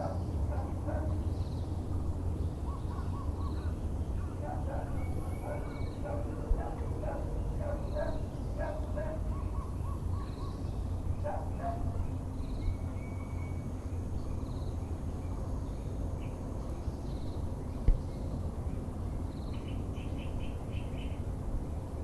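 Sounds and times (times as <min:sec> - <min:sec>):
birds calling: 0:00.0 - 0:18.4
low background rumble: 0:00.0 - 0:22.0.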